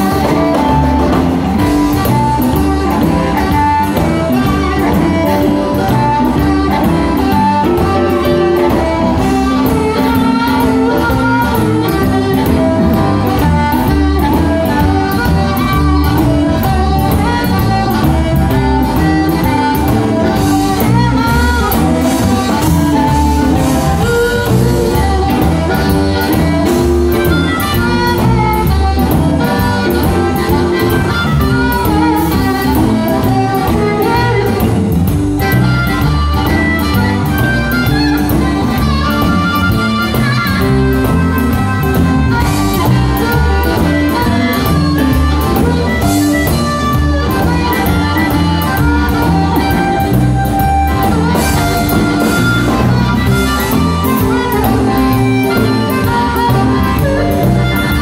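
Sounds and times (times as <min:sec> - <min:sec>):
amplified blues harmonica: 0:00.0 - 0:58.0
drums: 0:00.0 - 0:58.0
electric guitar: 0:00.0 - 0:58.0.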